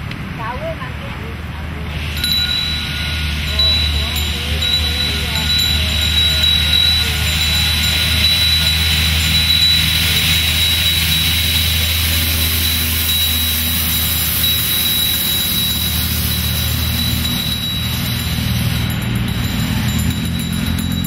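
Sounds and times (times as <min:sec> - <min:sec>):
low mechanical drone: 0:00.0 - 0:21.0
loud even hiss: 0:01.8 - 0:20.7
thin high whine: 0:01.8 - 0:21.0.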